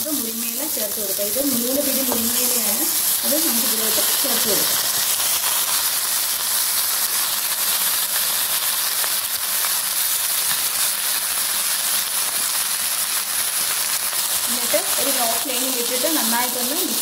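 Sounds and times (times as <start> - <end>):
food sizzling in a hot pan: 0.0 - 17.0.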